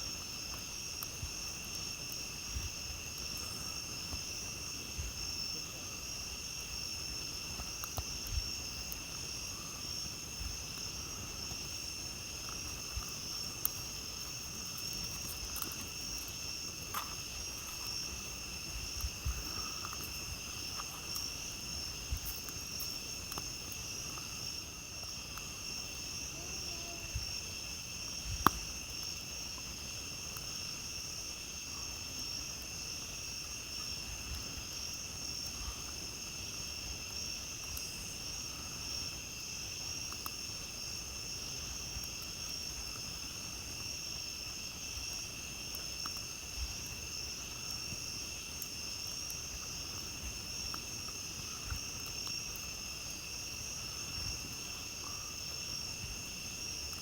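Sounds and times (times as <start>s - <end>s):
campfire crackling and popping: 0.0s - 57.0s
night insects trilling: 0.0s - 57.0s.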